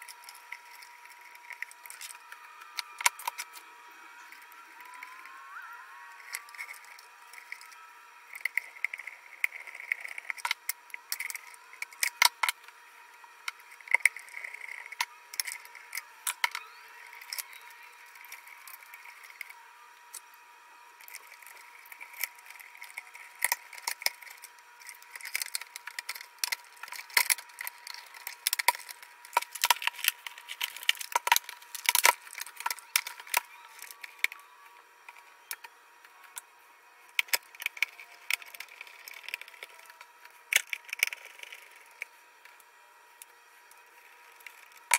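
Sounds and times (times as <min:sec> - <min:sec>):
plastic parts clicking and rattling: 0:00.0 - 0:03.6, 0:06.2 - 0:12.6, 0:13.4 - 0:20.2, 0:21.0 - 0:34.4, 0:37.1 - 0:44.9.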